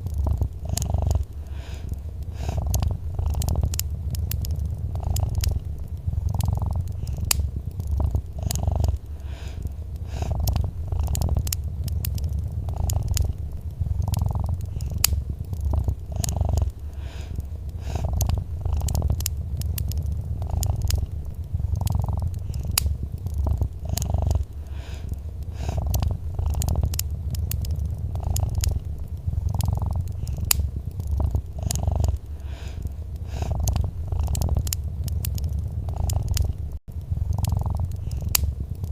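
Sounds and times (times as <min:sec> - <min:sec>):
cat purring: 0:00.0 - 0:38.9
wood fire crackling and popping: 0:00.0 - 0:38.9.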